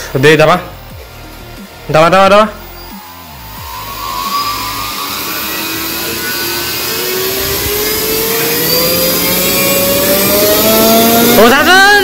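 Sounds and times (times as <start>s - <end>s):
electric motor propeller whine: 0.7s - 12.0s.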